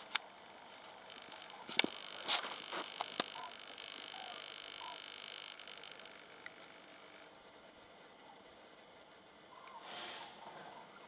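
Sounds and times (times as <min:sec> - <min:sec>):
steady high hiss: 0:00.0 - 0:10.5
distant crane calls: 0:00.3 - 0:11.0.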